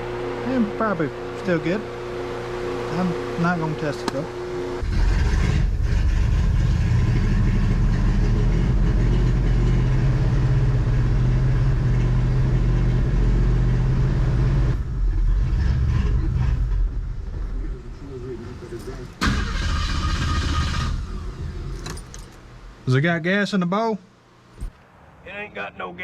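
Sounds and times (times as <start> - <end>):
engine running: 0.0 - 22.6.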